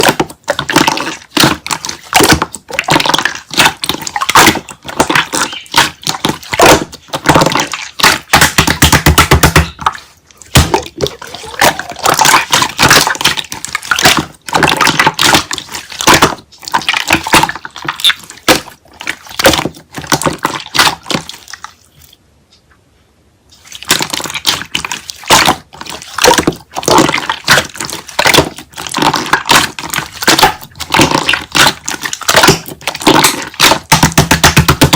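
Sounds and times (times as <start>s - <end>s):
slime squished by hand: 0.0s - 21.9s, 23.6s - 34.9s.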